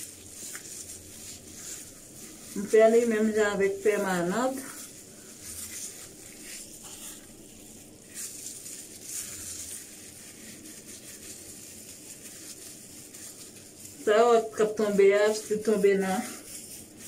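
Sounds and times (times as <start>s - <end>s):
faint steady hiss: 0.0s - 17.0s
gloved hands squishing paste in hair: 0.0s - 17.0s.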